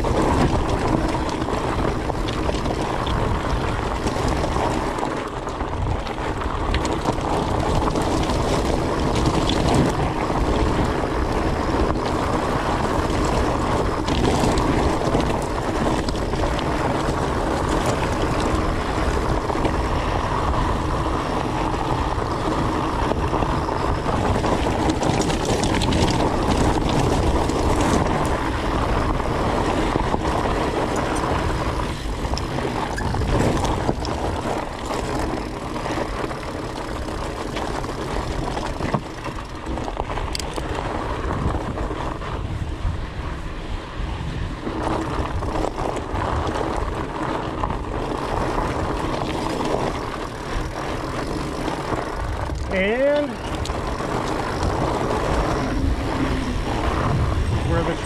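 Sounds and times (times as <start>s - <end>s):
bike tyres rolling over gravel: 0.0s - 58.0s
wind buffeting microphone: 0.0s - 58.0s.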